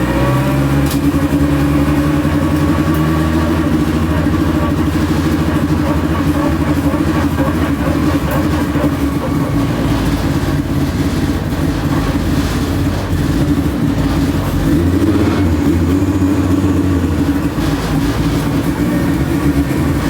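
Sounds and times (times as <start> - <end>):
drag car engine rumbling: 0.0 - 20.0.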